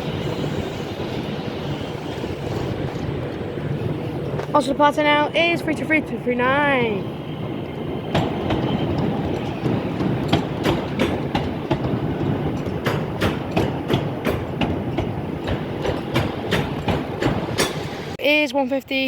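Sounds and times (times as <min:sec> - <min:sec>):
electric train rumble: 0:00.0 - 0:18.2
wheels clacking over rail joints: 0:00.0 - 0:18.2.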